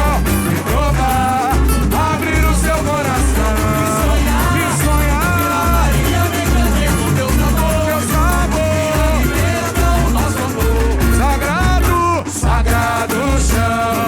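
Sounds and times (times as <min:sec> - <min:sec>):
deep drums pulsing: 0:00.0 - 0:14.0
samba music: 0:00.0 - 0:14.0.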